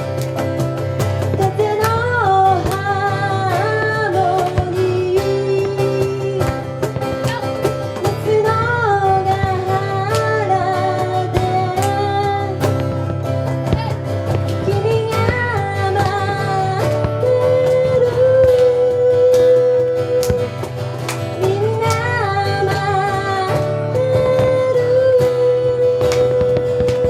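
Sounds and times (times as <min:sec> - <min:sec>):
guitar strumming: 0:00.0 - 0:27.0.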